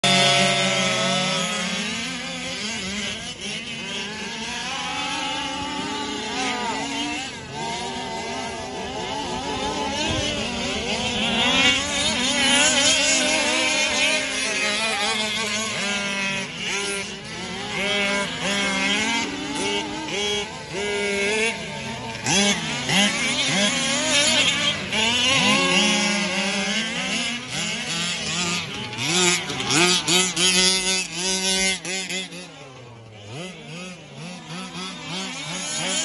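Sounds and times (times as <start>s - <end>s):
model car engines whining: 0.0s - 36.0s.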